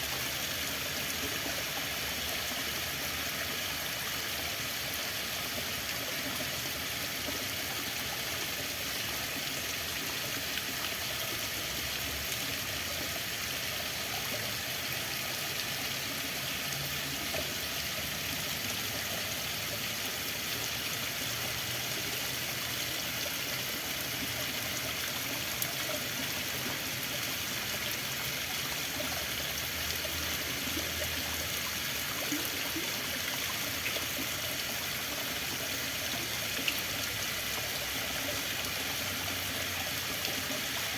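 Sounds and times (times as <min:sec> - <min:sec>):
water rushing and trickling: 0:00.0 - 0:40.9.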